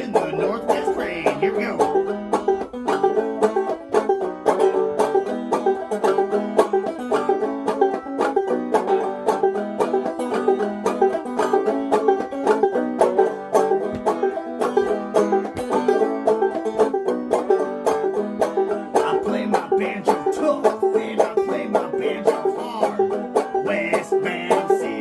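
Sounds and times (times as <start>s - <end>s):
banjo playing instrumental: 0.0s - 25.0s.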